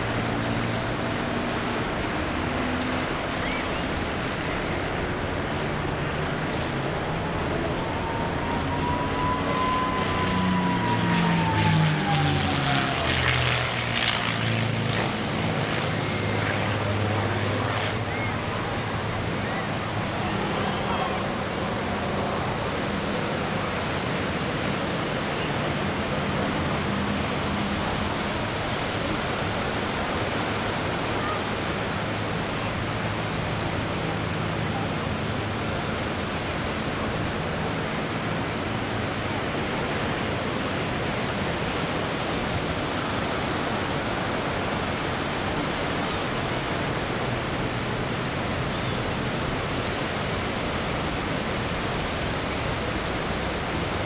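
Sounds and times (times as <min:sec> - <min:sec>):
faint aircraft engine hum: 0:00.0 - 0:54.0
steady rushing noise: 0:00.0 - 0:54.0.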